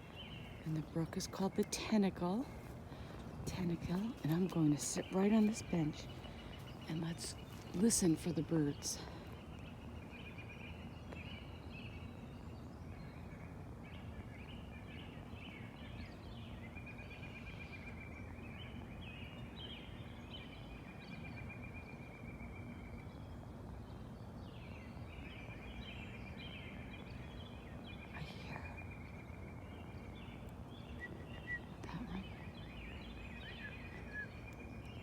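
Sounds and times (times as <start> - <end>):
low background rush: 0.0 - 35.0
songbirds singing: 0.0 - 35.0.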